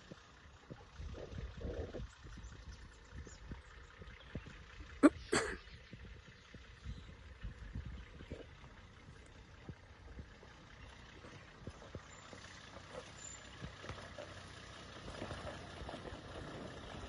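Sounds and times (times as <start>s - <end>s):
faint vehicle engine rumble: 0.0s - 17.0s.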